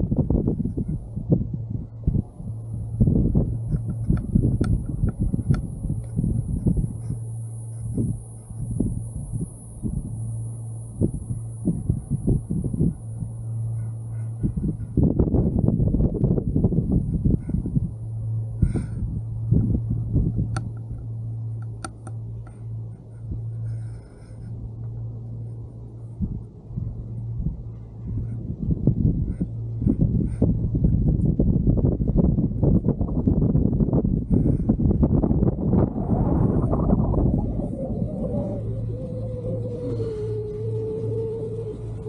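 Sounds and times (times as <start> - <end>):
gondola cabin humming: 0.0 - 42.0
wind buffeting microphone: 0.0 - 42.0.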